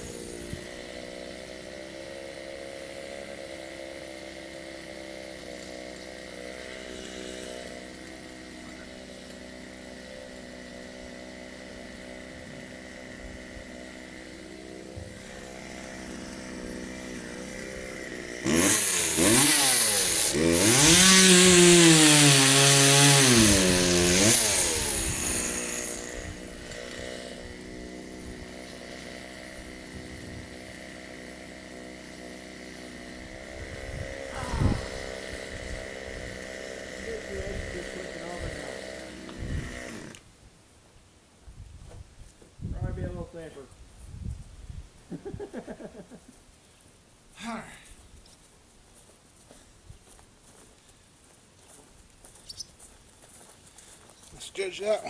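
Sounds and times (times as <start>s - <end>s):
chainsaw idling and cutting wood: 0.0s - 40.4s, 45.1s - 46.2s, 52.3s - 55.0s.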